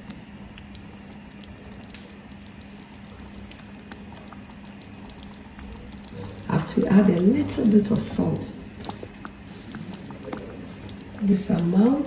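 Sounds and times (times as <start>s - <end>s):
steady low hum: 0.0s - 12.0s
stew bubbling in a pot: 0.0s - 12.0s.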